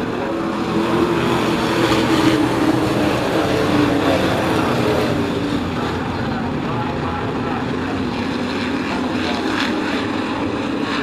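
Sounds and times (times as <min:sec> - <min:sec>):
race truck engines roaring: 0:00.0 - 0:11.0.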